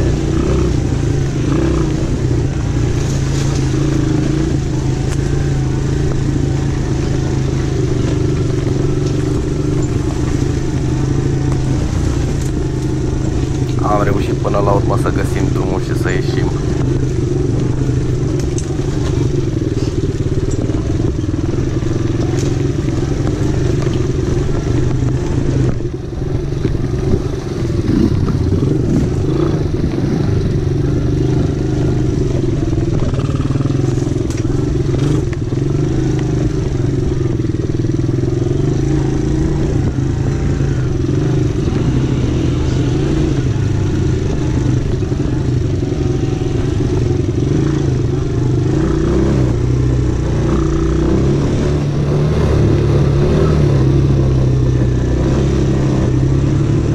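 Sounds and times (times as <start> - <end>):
small atv engine running: 0.0 - 56.9.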